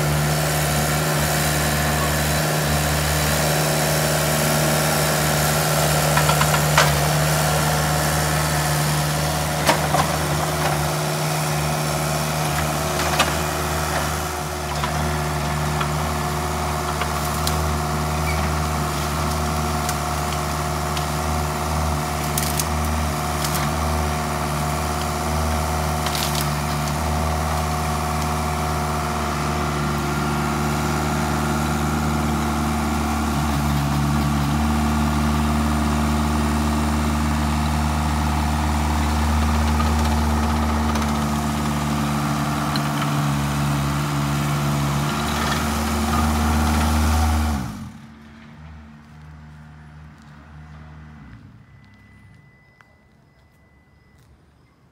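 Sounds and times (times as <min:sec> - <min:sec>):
mini loader engine running: 0:00.0 - 0:52.2.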